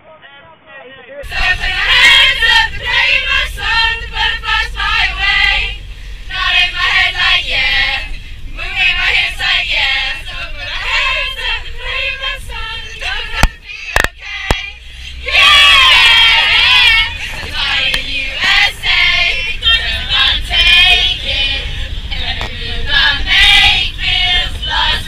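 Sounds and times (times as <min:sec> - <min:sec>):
girls singing together: 0:01.2 - 0:25.0
vehicle rumble: 0:01.2 - 0:25.0.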